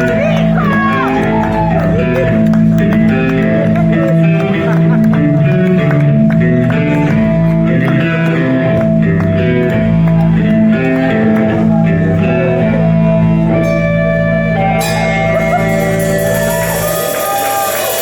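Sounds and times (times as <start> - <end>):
bass guitar notes: 0.0 - 18.0.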